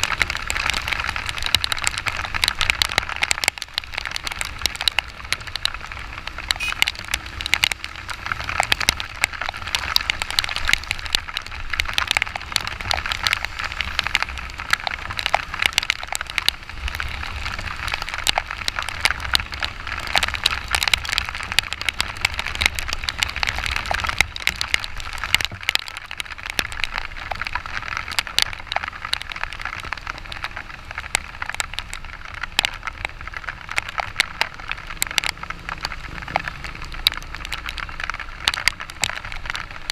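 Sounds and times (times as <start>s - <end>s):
heavy rain on microphone: 0.0s - 39.9s.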